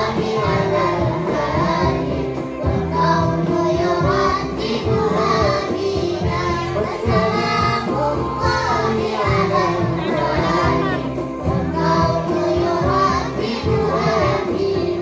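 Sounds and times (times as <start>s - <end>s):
children singing devotional song: 0.0s - 15.0s.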